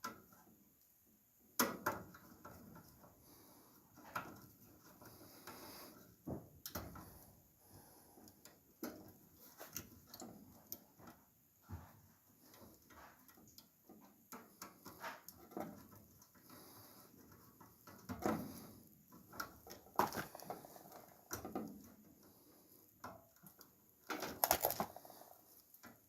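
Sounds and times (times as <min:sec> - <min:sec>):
faint clicks and light knocks: 0:01.6 - 0:07.3, 0:08.2 - 0:26.0.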